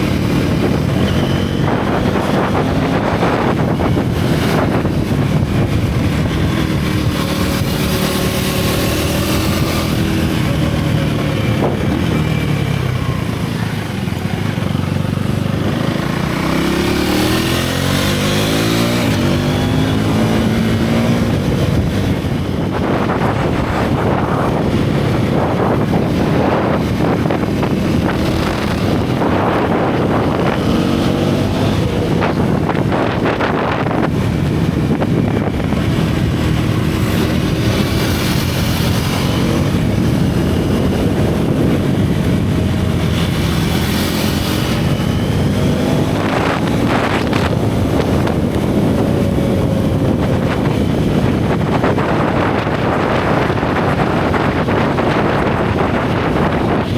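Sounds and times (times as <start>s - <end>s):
motorcycle engine: 0.0s - 56.9s
wind buffeting microphone: 0.0s - 56.9s.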